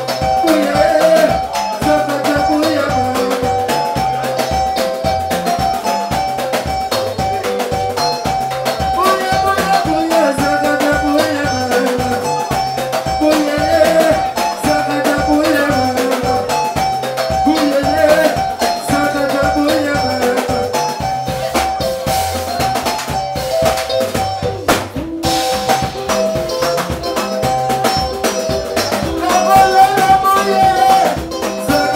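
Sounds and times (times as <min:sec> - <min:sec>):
fast drum beat: 0:00.0 - 0:31.9
melodic guitar lines: 0:00.0 - 0:31.9
pulsing bass: 0:00.0 - 0:31.9.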